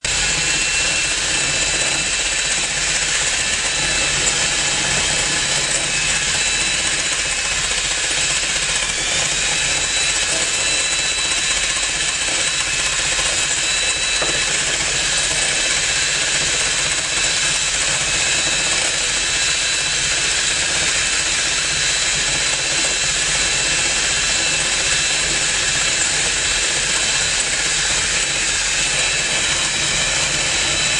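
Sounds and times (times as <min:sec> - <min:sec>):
egg beater whirring: 0:00.0 - 0:30.9.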